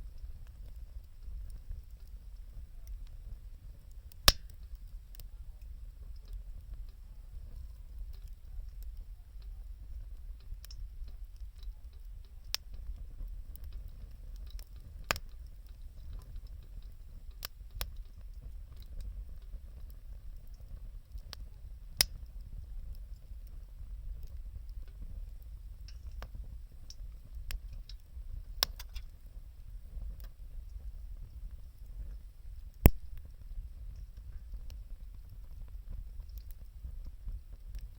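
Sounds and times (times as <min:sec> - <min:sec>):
low steady rumble: 0:00.0 - 0:37.9
sharp pops from fire: 0:00.0 - 0:37.9
wood fire crackling: 0:00.0 - 0:37.9.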